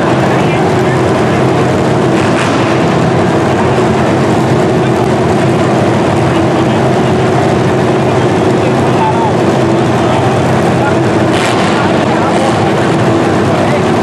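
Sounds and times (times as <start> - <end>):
car engines running loudly: 0.0 - 14.0.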